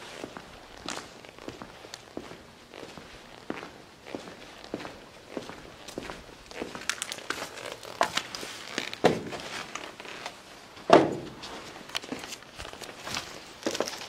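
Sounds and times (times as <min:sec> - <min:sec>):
footsteps on debris: 0:00.0 - 0:10.4, 0:11.1 - 0:14.0.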